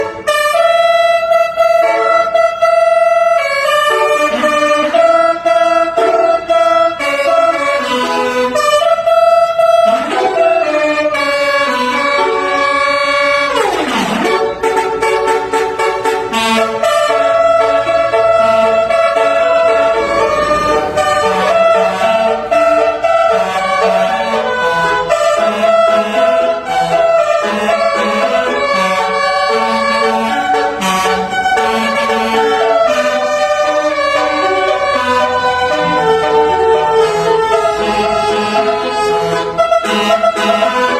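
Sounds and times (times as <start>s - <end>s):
musical horn playing melody: 0.0s - 40.9s.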